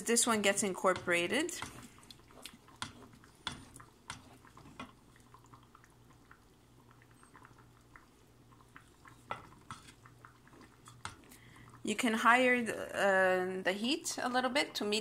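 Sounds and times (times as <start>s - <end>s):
wooden spoon stirring in a pot: 0.0s - 12.4s
low steady hum: 0.0s - 15.0s.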